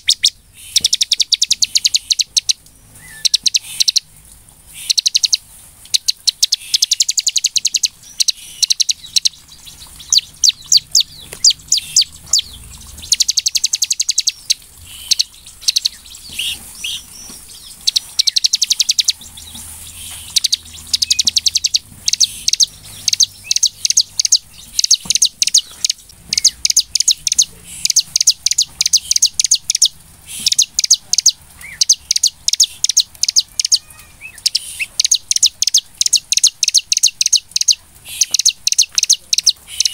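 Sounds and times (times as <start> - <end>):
bird singing rapid high trills: 0.0 - 4.1, 4.7 - 39.9.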